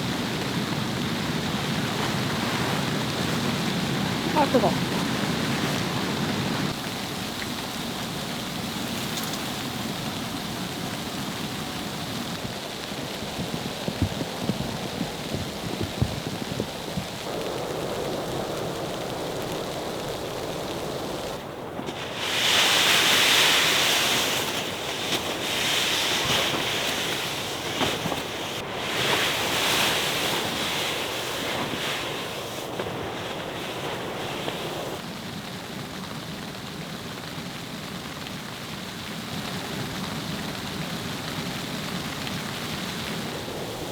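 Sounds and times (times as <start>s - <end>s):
snowstorm wind blowing: 0.0s - 35.0s, 35.6s - 43.9s.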